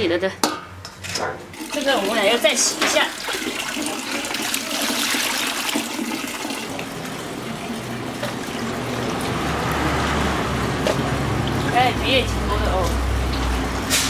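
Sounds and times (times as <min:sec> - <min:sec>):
water sloshing in a metal basin: 0:00.4 - 0:14.0.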